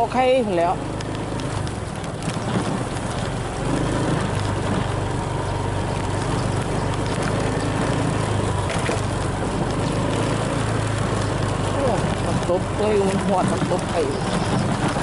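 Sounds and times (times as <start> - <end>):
small engine humming: 0.1 - 15.0.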